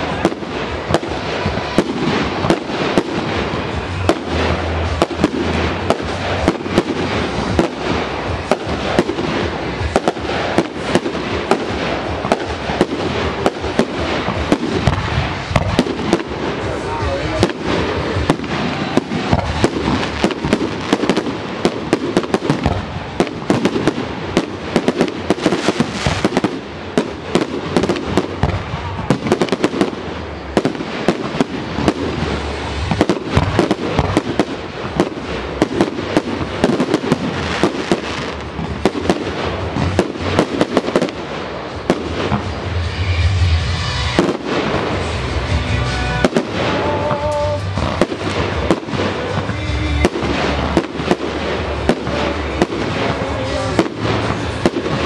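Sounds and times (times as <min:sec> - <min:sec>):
fireworks crackle: 0:00.0 - 0:55.0
fireworks sharp bangs: 0:00.0 - 0:55.0
heavy low firework booms: 0:00.0 - 0:55.0.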